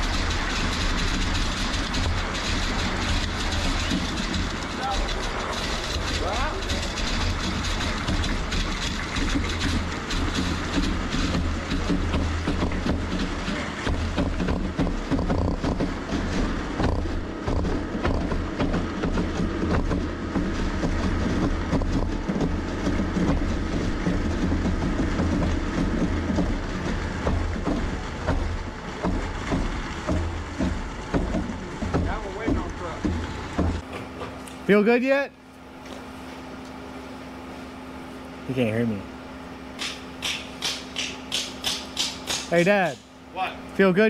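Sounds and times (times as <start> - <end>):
concrete pump truck rumbling: 0.0 - 44.0.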